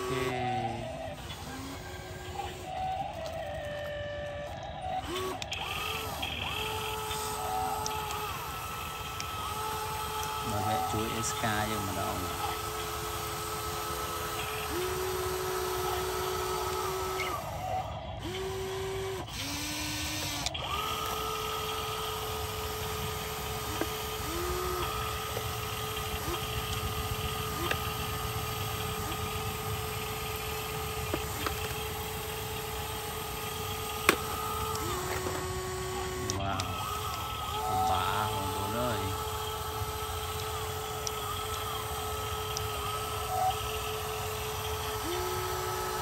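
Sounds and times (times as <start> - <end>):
toy electric motors whining: 0.0 - 46.0.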